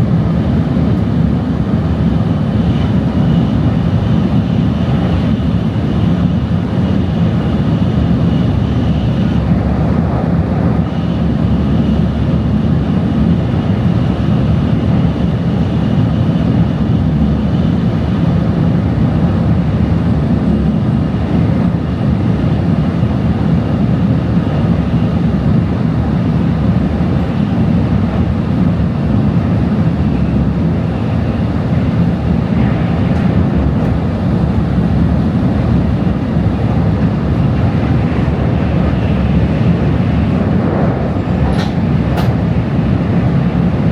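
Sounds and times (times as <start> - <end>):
train cabin rumble: 0.0 - 43.9.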